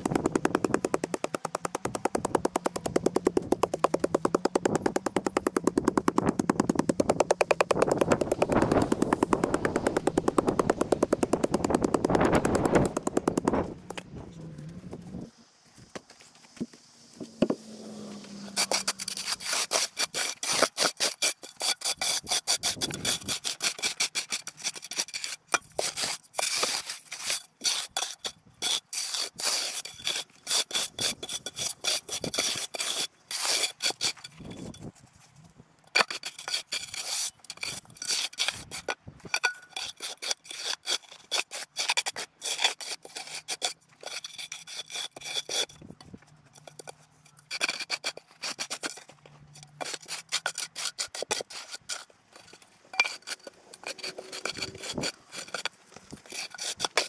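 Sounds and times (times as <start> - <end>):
shovel scraping into soil: 7.7 - 35.0, 36.0 - 57.0.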